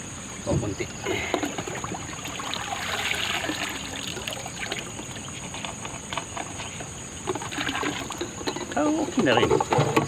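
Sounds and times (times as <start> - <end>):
water trickling and splashing: 0.2 - 9.8.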